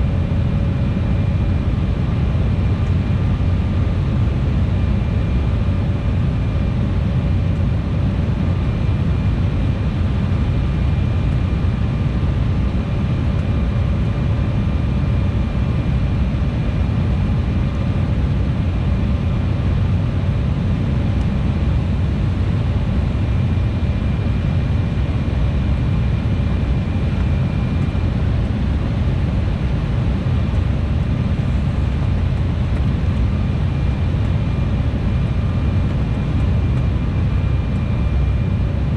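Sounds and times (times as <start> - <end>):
jet engine and airflow rush: 0.0 - 38.9.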